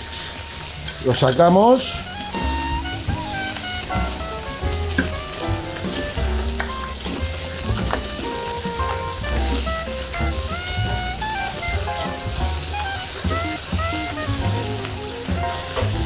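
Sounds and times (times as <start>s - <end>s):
seafood sizzling in oil: 0.0s - 16.0s
background music: 0.4s - 16.0s.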